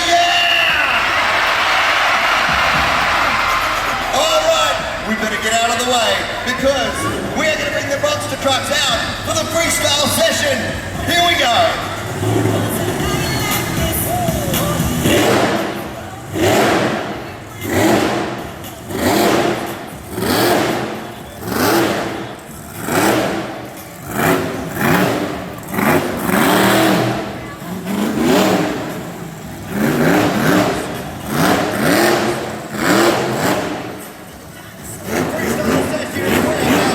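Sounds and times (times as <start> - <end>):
monster truck engine revving: 0.0 - 36.9.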